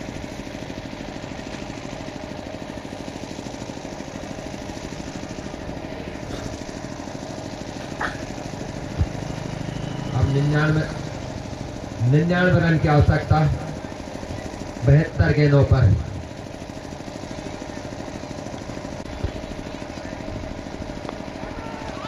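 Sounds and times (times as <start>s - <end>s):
engine running with rapid pulse: 0.0s - 22.0s.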